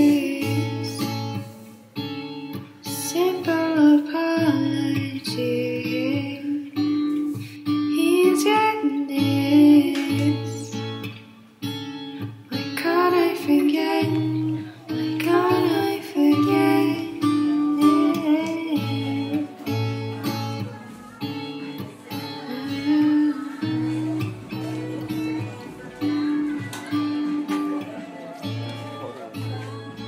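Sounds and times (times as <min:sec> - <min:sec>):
person singing softly: 0:00.0 - 0:01.7, 0:02.8 - 0:11.0, 0:12.7 - 0:30.0
plucked acoustic guitar: 0:00.0 - 0:30.0.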